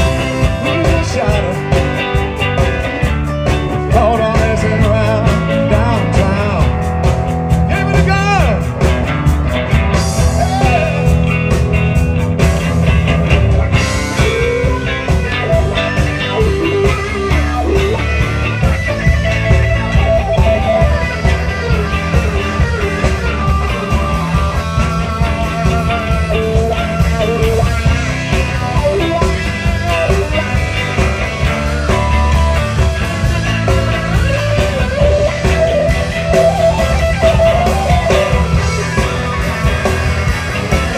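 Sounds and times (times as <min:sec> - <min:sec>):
blues-rock band playing: 0:00.0 - 0:40.9
electric guitar lead line: 0:00.0 - 0:40.9.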